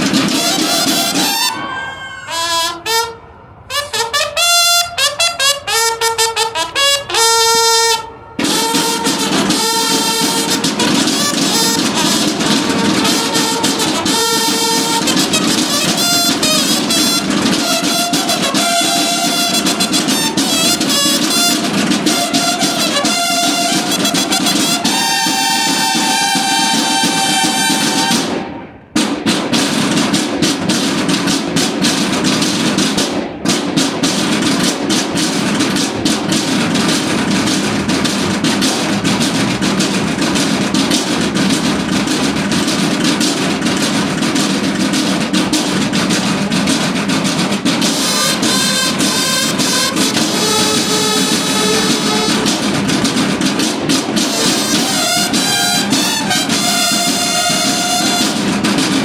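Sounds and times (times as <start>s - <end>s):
bugles holding notes: 0.0s - 59.0s
snare drums playing march cadence: 0.0s - 59.0s.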